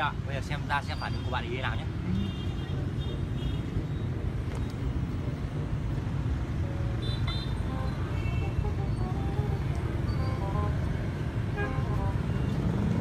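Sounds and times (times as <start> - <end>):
rumble of passing motorbikes and cars: 0.0 - 13.0.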